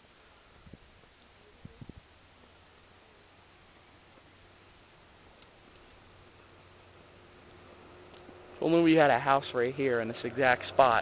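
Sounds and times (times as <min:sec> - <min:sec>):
faint low hum: 0:00.0 - 0:11.0
insects chirring: 0:00.0 - 0:11.0
light hiss: 0:00.0 - 0:11.0.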